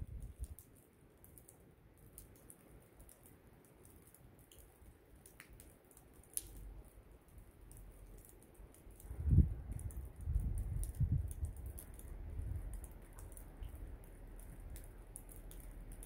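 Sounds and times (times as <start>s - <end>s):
soft ticks and clicks: 0.1s - 16.0s.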